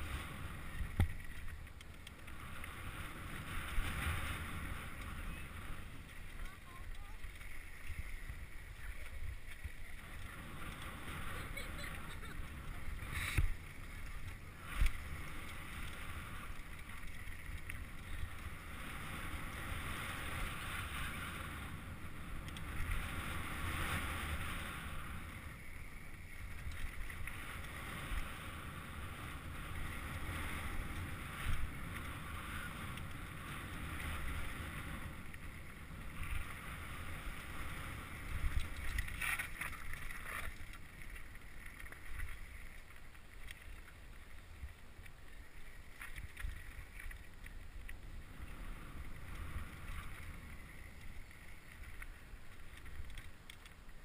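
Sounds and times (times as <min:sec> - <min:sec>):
tyres rumbling on gravel trail: 0:00.0 - 0:54.0.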